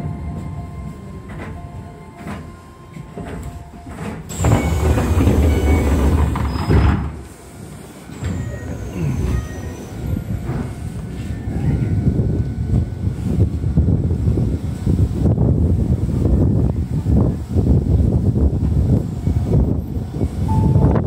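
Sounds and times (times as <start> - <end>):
train wheel and track noise: 0.0 - 21.0.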